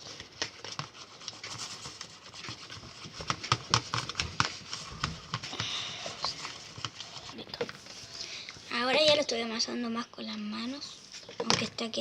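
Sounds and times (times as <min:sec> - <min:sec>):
sticky mixture being stirred: 0:00.0 - 0:09.6.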